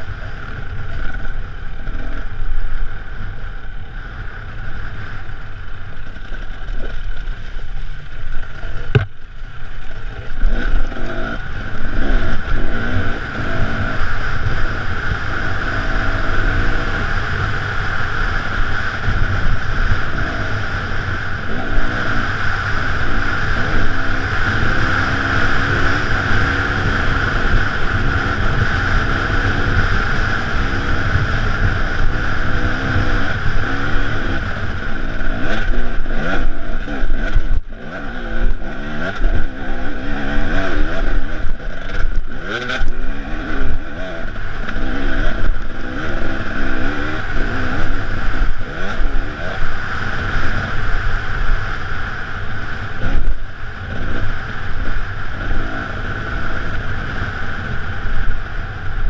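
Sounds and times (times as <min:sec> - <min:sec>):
dirt bike engine revving: 0:09.8 - 0:59.0.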